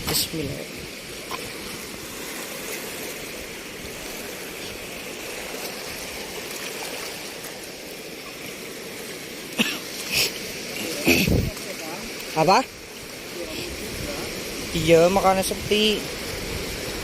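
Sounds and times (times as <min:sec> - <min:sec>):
shallow seawater rushing: 0:00.0 - 0:17.0.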